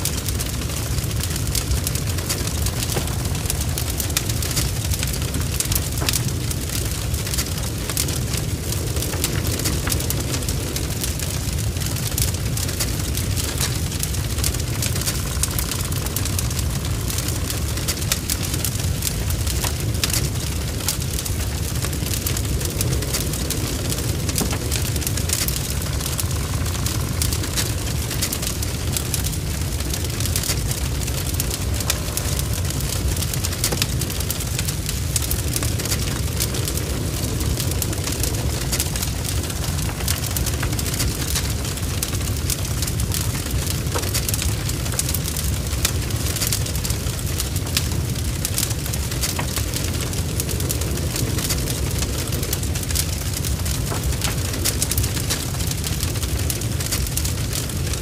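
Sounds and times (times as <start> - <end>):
burning wood crackling: 0.0 - 58.0
fire rumbling: 0.0 - 58.0.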